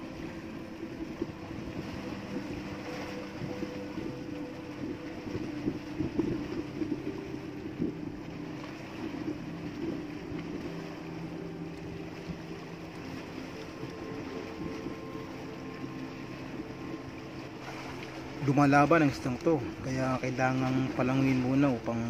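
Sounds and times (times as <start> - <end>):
boat engine running: 0.0 - 22.0
water splashing at hull: 0.0 - 22.0.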